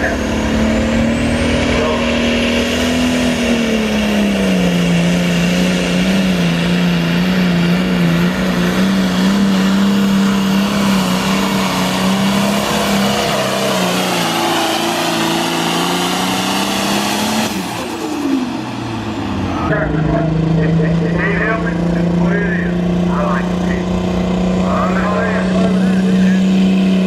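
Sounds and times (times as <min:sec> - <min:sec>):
tractor engine revving high: 0:00.0 - 0:27.0.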